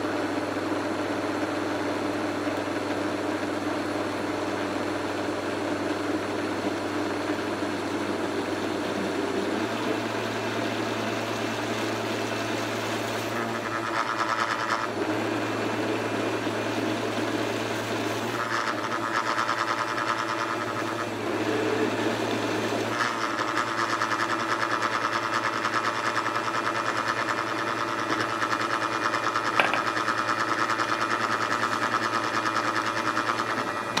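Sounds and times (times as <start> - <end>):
blender motor running: 0.0 - 34.0.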